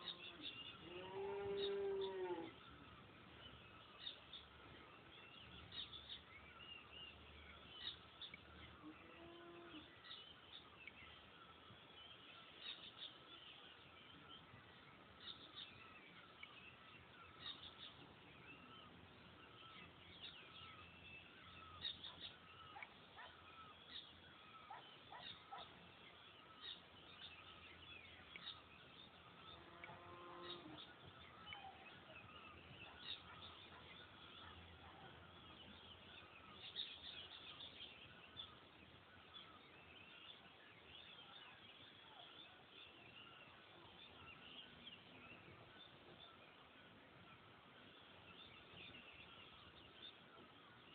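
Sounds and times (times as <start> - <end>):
faint bird chirping: 0.0 - 50.9.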